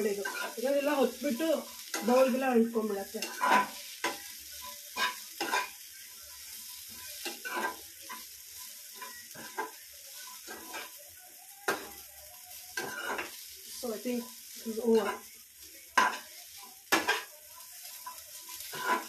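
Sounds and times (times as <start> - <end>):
spatula scraping a pan: 0.0 - 11.0, 12.8 - 13.6, 14.2 - 15.3, 16.0 - 19.0
vegetables sizzling in a pan: 0.0 - 19.0.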